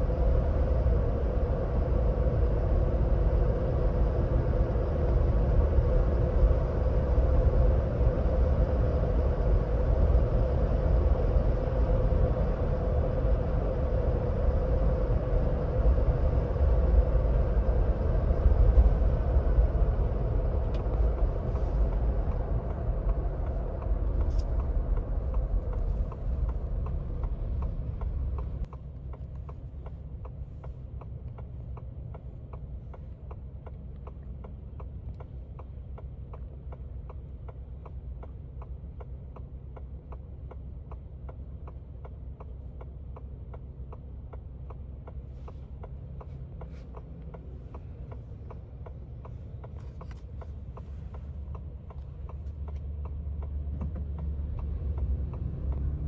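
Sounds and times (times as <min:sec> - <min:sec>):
low engine hum: 0:00.0 - 0:56.0
road noise: 0:00.0 - 0:56.0
turn signal ticking: 0:03.4 - 0:56.0.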